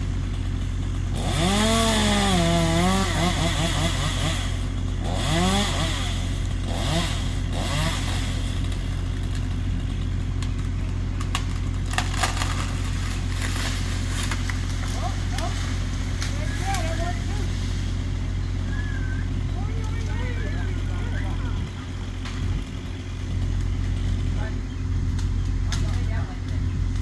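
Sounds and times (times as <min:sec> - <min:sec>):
branches cracking: 0:00.0 - 0:27.0
chainsaw revving: 0:00.0 - 0:27.0.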